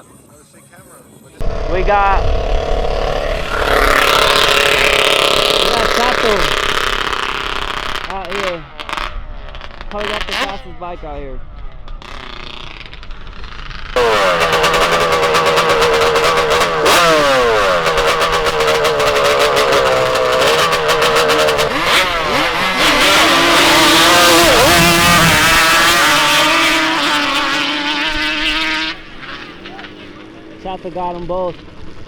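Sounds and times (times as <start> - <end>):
racing motorbike engines at full throttle: 1.4 - 32.0.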